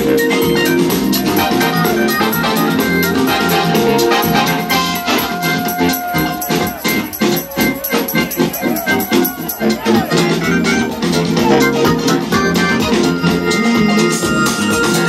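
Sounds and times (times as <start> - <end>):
loud house music: 0.0 - 15.0.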